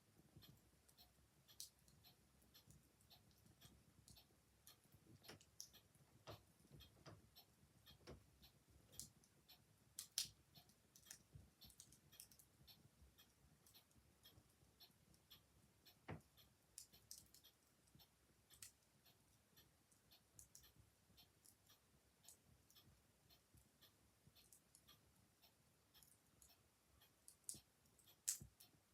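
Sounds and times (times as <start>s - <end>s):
clock ticking: 0.0s - 28.9s.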